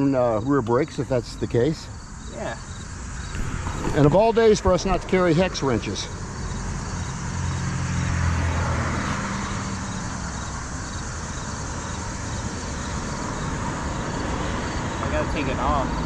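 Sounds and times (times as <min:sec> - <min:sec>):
road traffic noise: 0:00.0 - 0:16.0
vehicle driving past: 0:02.8 - 0:16.0.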